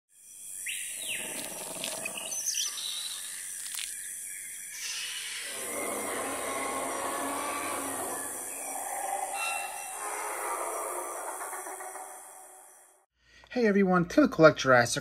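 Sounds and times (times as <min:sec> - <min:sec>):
animal and bird calls: 0:00.6 - 0:13.0.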